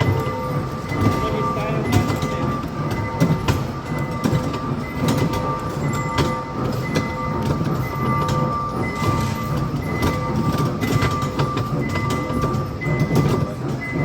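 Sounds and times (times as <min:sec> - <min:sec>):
small train rumbling: 0:00.0 - 0:14.0
steady high tones: 0:00.0 - 0:14.0.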